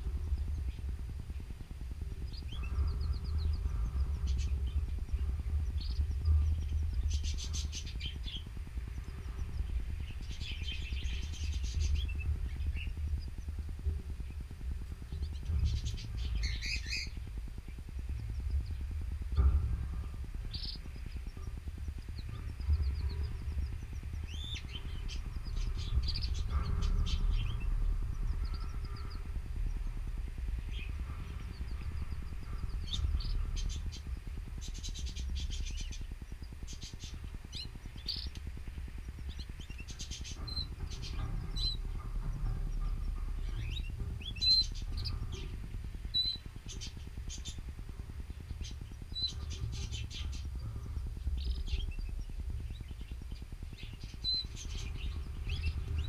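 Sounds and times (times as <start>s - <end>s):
low rumble: 0.0s - 56.0s
canaries chirping and trilling: 0.1s - 56.0s.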